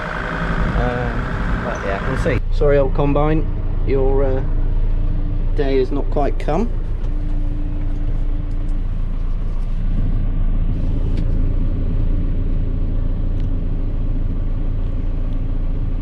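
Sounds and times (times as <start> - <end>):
tractor engine rumbling: 0.0 - 16.0.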